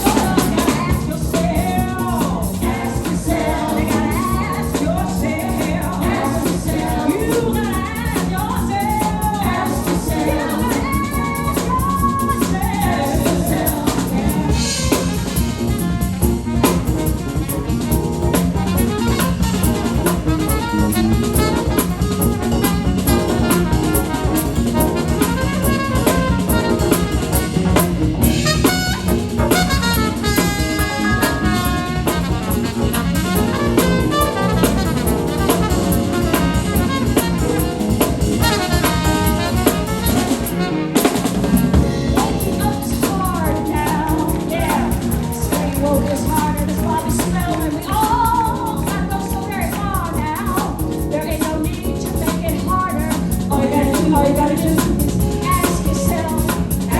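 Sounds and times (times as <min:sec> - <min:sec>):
live band playing upbeat music: 0:00.0 - 0:56.9.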